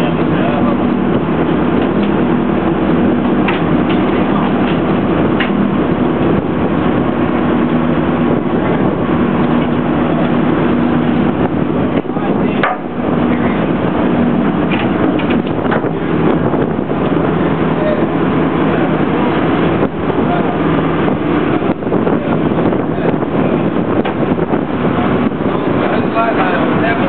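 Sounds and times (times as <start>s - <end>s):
boat engine humming: 0.0s - 27.0s
water noise: 0.0s - 27.0s
wind: 0.0s - 27.0s.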